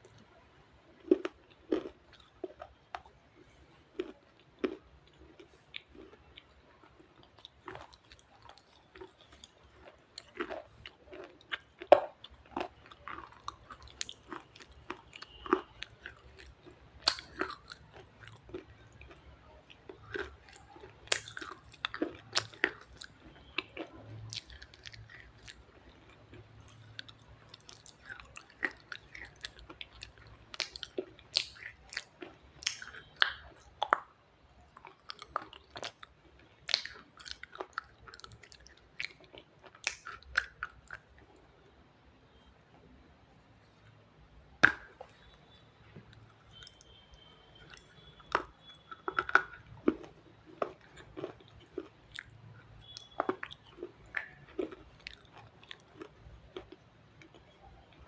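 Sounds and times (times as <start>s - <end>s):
crunchy chewing: 0.0s - 41.6s, 44.6s - 58.0s.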